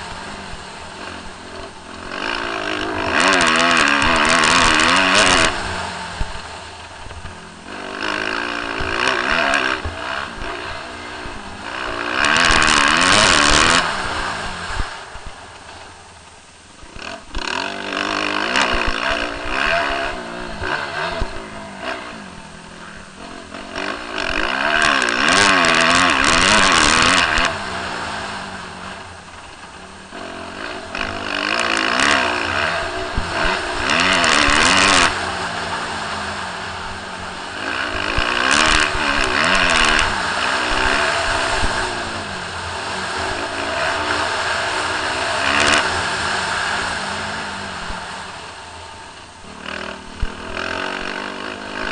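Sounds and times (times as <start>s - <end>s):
motocross bike engines revving: 0.0s - 51.9s.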